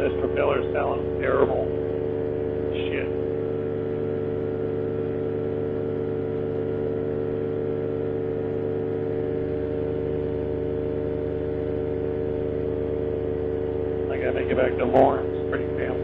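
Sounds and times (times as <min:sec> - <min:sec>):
paramotor engine drone: 0:00.0 - 0:16.0.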